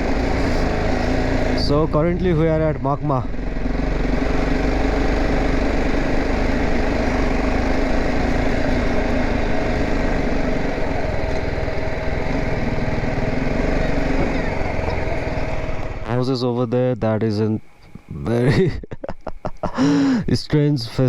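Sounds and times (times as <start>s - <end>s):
motorcycle engine running: 0.0s - 16.9s
steady rush of noise: 3.3s - 21.0s.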